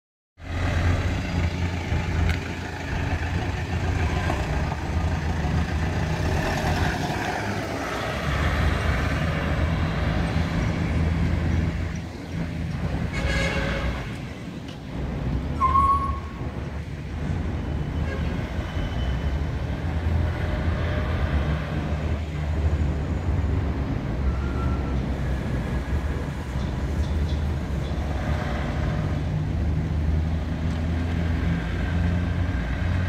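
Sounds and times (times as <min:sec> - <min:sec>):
minibus engine rumbling: 0:00.4 - 0:33.0.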